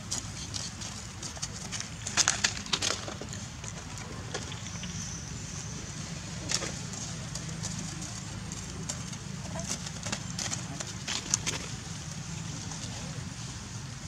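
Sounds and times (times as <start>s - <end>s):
rustles: 0.0s - 14.0s.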